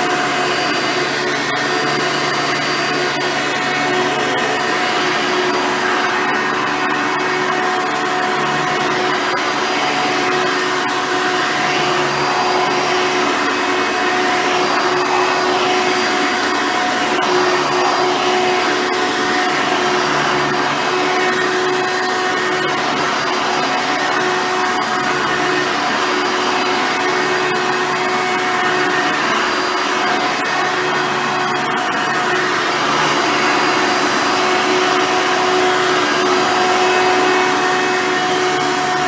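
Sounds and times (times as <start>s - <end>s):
upright vacuum cleaner running: 0.0s - 39.0s.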